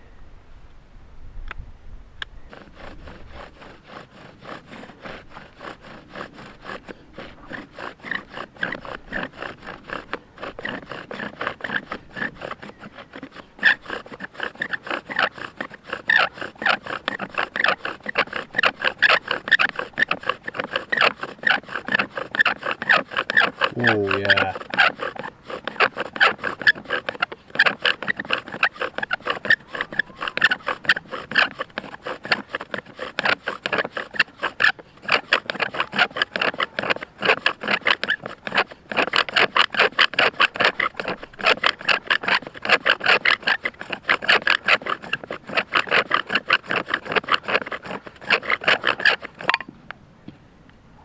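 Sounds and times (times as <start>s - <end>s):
bow drill spindle rubbing wood: 2.3s - 49.7s.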